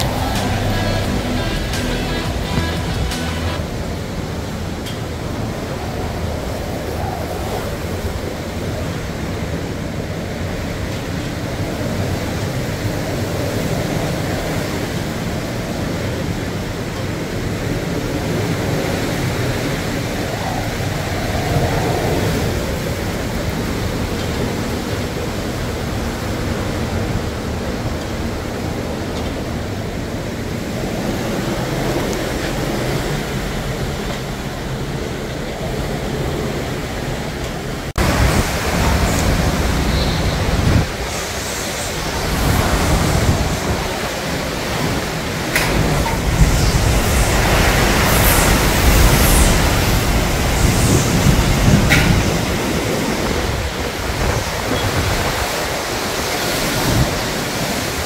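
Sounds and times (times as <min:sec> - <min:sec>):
rain: 0:00.0 - 0:58.0
wind gusting: 0:00.0 - 0:58.0.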